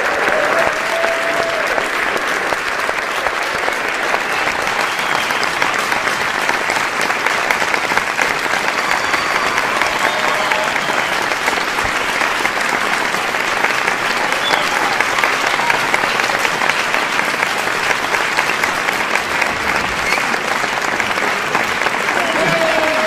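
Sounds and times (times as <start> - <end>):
large audience clapping: 0.0 - 23.0.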